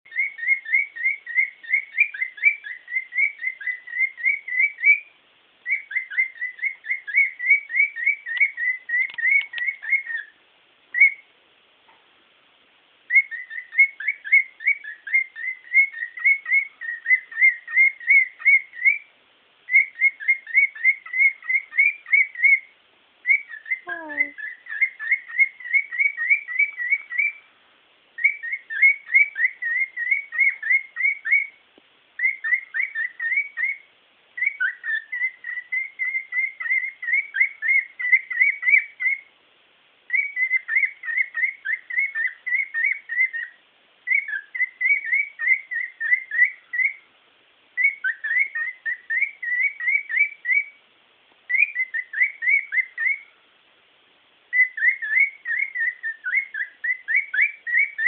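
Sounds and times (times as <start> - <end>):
cockatiel whistling: 0.1 - 11.3, 13.1 - 19.1, 19.7 - 27.4, 28.2 - 31.6, 32.2 - 39.3, 40.1 - 47.1, 47.8 - 50.8, 51.5 - 53.3, 54.5 - 58.0.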